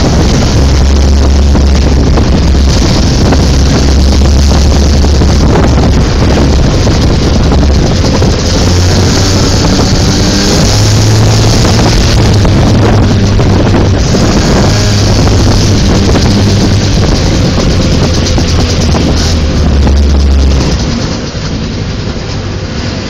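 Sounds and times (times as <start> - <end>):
three-wheeler engine running: 0.0 - 23.0
wind on microphone: 0.0 - 23.0.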